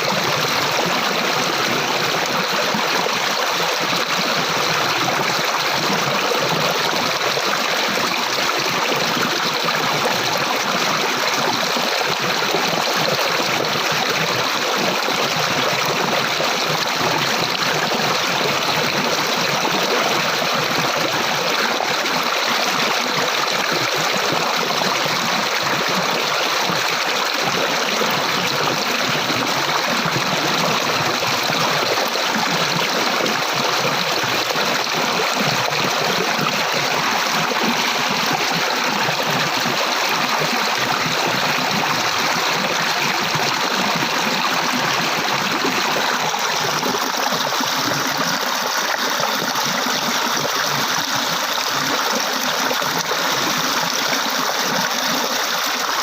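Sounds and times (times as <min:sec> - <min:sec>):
stream water rushing and trickling: 0:00.0 - 0:56.0.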